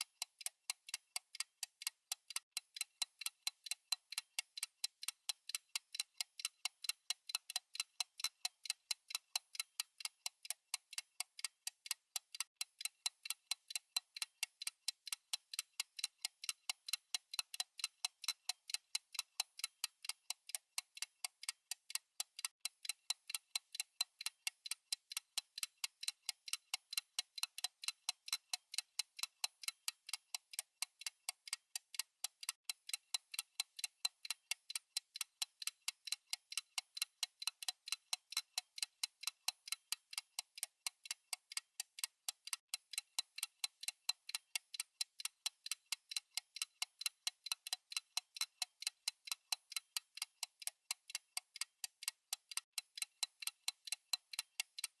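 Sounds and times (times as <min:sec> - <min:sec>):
fast clock ticking: 0:00.0 - 0:55.0.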